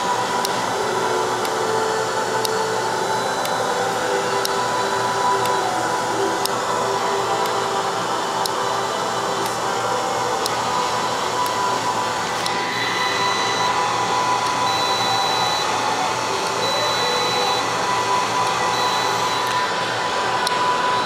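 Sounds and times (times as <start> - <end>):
thin continuous whine: 0.0 - 21.0.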